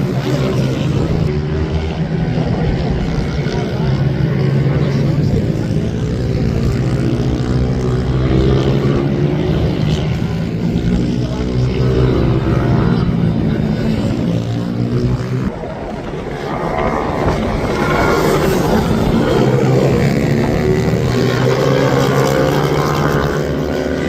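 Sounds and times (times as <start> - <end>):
minibike engines revving past: 0.0 - 24.0.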